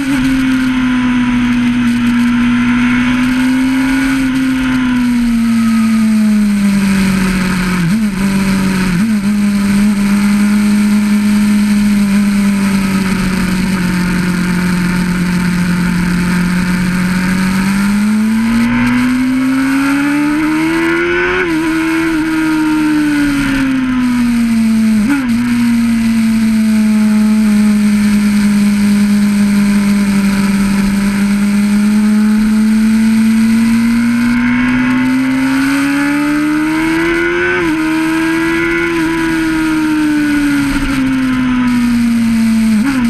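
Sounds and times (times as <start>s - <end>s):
motorcycle engine at high revs: 0.0s - 43.0s.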